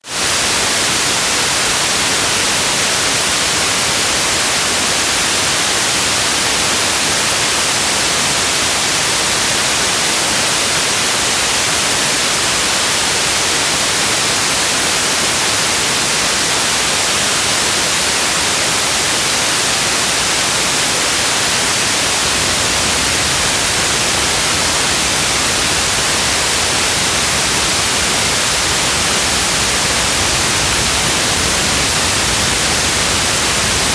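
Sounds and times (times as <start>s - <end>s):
steady rain hiss: 0.2s - 33.9s.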